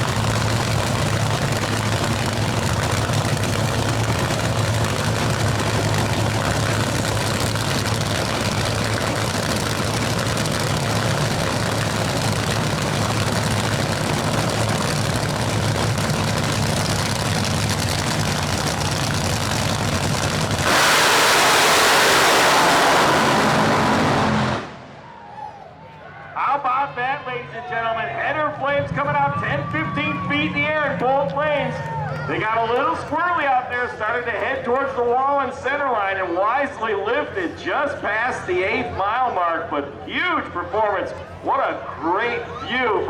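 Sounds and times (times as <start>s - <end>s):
drag racing engines idling: 0.0s - 25.0s, 26.6s - 43.0s
engines roaring at full throttle: 0.0s - 25.3s, 27.6s - 43.0s.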